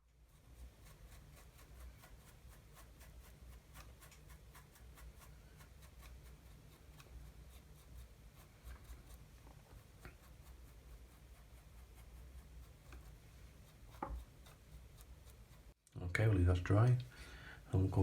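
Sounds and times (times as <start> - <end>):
small scratching and dabbing: 0.0 - 16.4
low room hum: 0.0 - 18.0.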